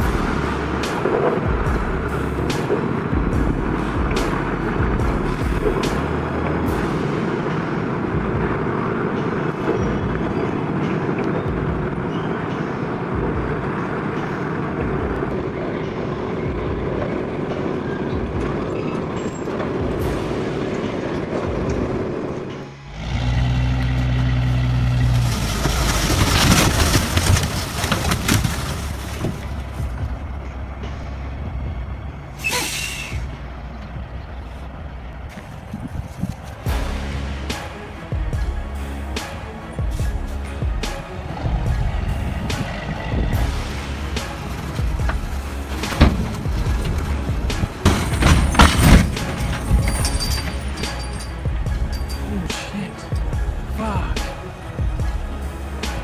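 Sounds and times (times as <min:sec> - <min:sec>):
deeper engine hum: 0:00.0 - 0:18.7, 0:19.7 - 0:56.0
heavy vehicle engine running: 0:00.0 - 0:56.0.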